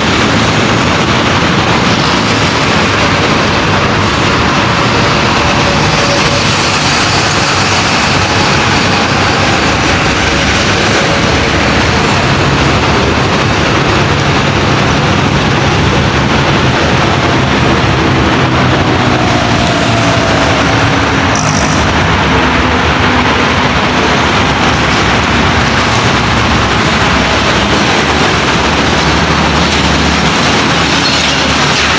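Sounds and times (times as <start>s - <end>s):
heavy trucks passing: 0.0s - 31.9s
low engine drone: 0.0s - 31.9s.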